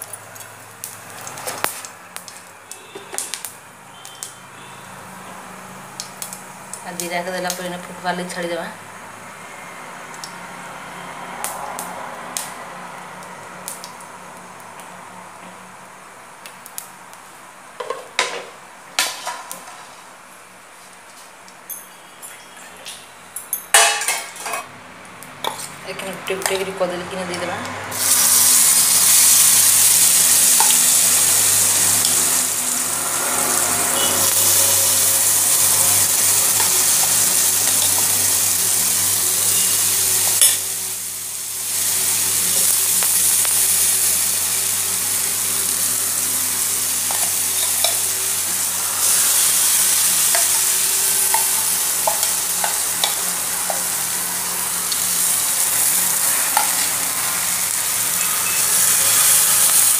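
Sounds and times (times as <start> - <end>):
banana slices sizzling in oil: 0.0 - 21.6, 25.2 - 59.9.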